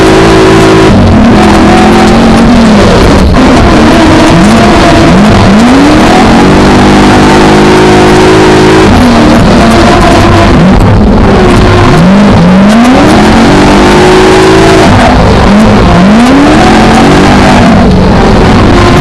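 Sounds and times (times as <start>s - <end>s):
car engine revving loudly: 0.0s - 19.0s.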